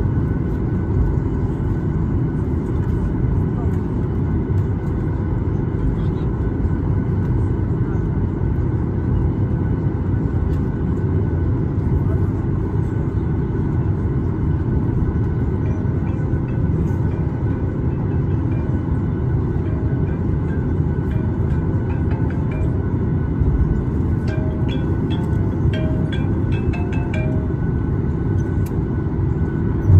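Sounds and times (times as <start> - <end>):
aircraft cabin engine rumble: 0.0 - 29.9
faint steady hum of tones: 0.0 - 29.9.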